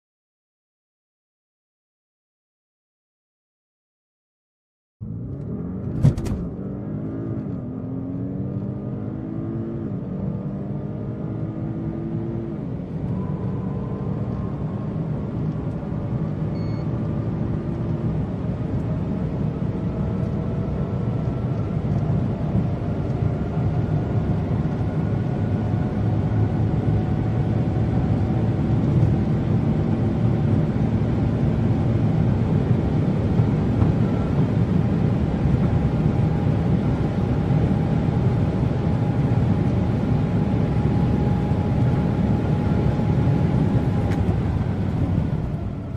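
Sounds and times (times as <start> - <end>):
car engine accelerating hard: 5.0 - 45.9.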